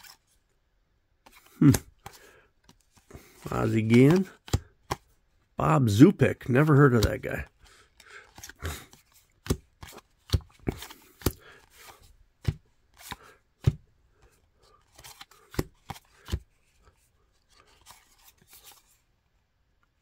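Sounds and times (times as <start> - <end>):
trading cards flipping and clicking: 0.0 - 0.5, 1.2 - 19.1.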